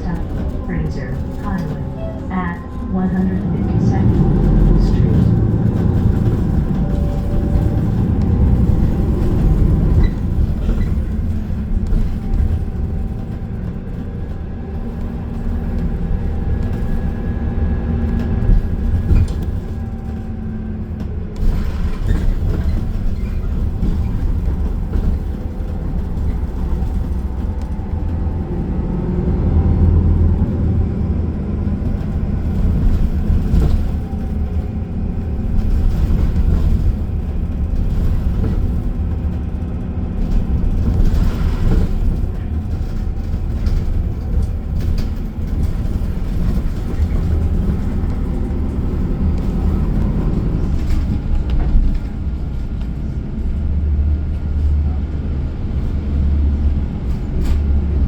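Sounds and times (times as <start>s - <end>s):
bus engine and road rumble: 0.0s - 58.0s
faint engine whine: 0.0s - 58.0s.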